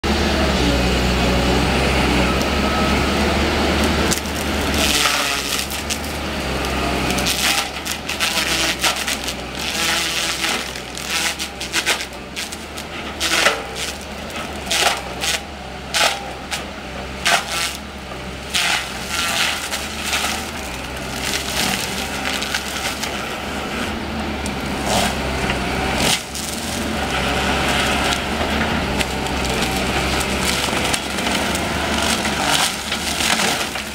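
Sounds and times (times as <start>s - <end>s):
excavator diesel engine running: 0.0s - 33.9s
wood cracking and splintering: 3.7s - 33.9s.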